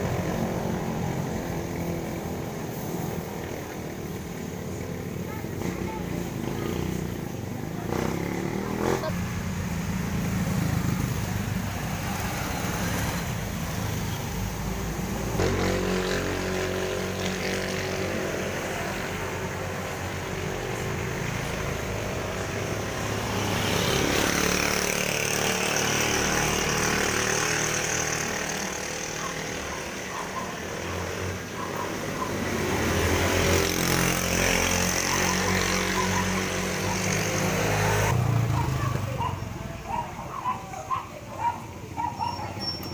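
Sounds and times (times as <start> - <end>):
rush of passing traffic: 0.0 - 42.9.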